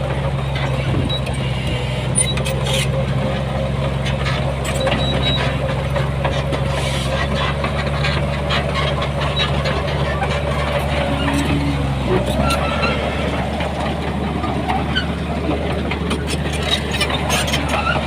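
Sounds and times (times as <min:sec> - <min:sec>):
heavy machine diesel engine running: 0:00.0 - 0:18.0.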